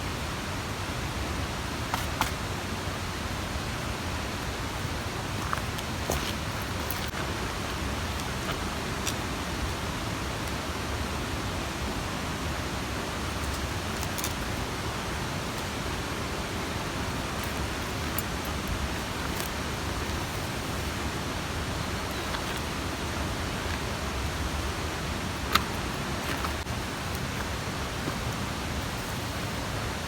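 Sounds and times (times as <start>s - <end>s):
steady outdoor rushing noise: 0.0s - 30.0s.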